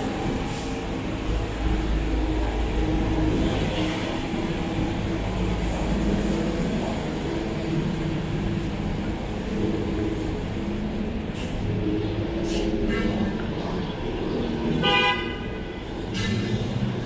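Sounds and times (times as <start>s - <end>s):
engine droning: 0.0s - 17.0s
street traffic rumble: 0.0s - 17.0s.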